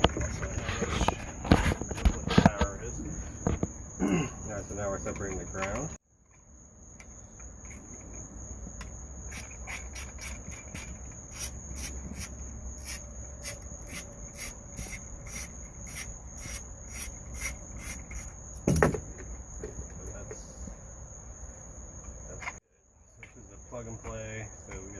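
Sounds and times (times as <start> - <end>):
insects chirping: 0.0 - 24.9.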